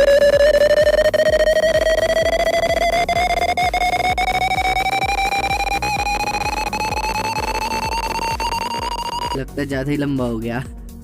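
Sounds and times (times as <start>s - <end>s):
buzzy computer beep rising in pitch: 0.0s - 9.4s.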